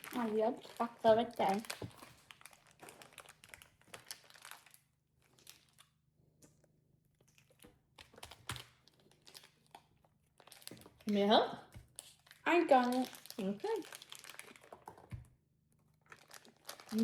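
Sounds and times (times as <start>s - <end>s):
plastic packaging crinkling: 0.0s - 5.9s, 7.4s - 15.2s, 15.9s - 17.0s.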